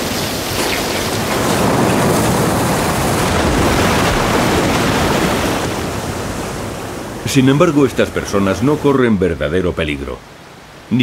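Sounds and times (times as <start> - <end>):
whitewater rapids rushing: 0.0 - 9.4.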